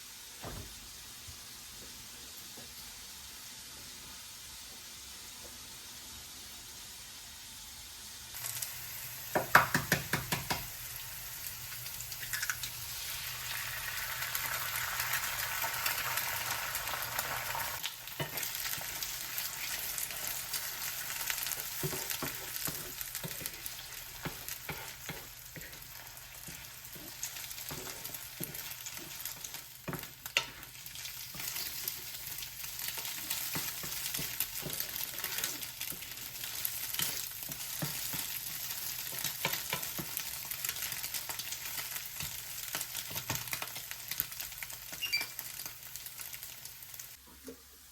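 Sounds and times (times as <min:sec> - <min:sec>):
food sizzling in a pan: 0:00.0 - 0:47.9.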